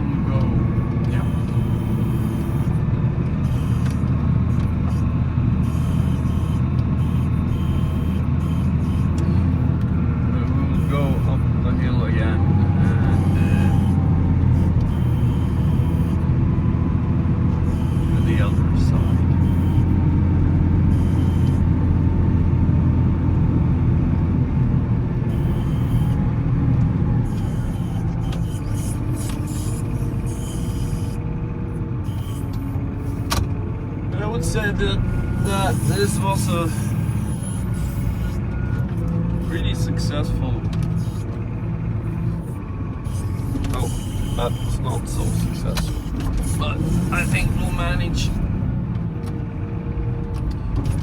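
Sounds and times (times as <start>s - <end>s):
wheel loader diesel engine: 0.0s - 51.0s.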